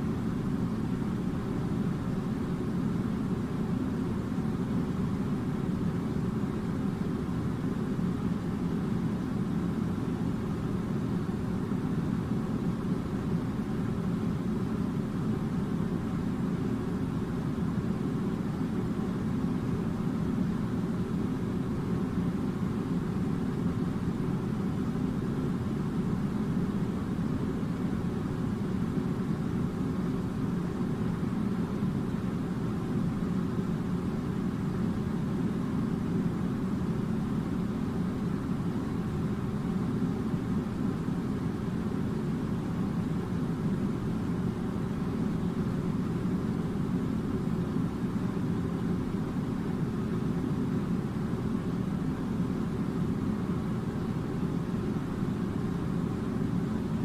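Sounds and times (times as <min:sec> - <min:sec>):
air conditioner blowing air: 0:00.0 - 0:57.0.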